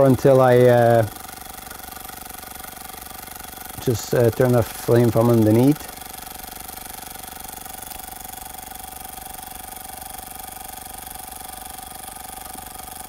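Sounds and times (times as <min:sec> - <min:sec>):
toy steam engine clicking: 0:00.0 - 0:13.0.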